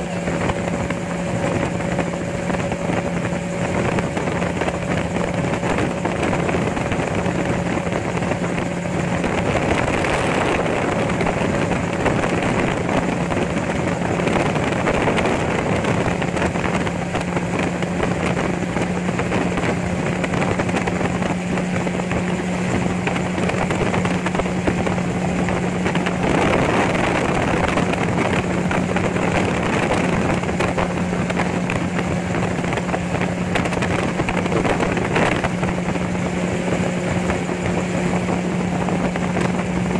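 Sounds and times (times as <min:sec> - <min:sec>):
engine and propeller drone: 0:00.0 - 0:39.9
wind rush: 0:00.0 - 0:39.9.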